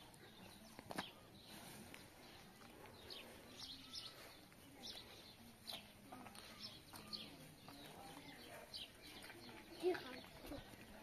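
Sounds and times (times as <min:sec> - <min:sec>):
small birds chirping faintly: 0:00.0 - 0:11.0.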